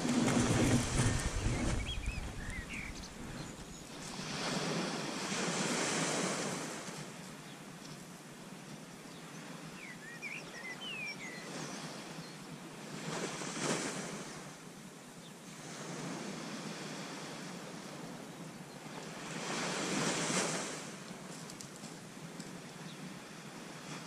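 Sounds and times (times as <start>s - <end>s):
waves breaking on beach: 0.0s - 7.8s, 8.5s - 24.0s.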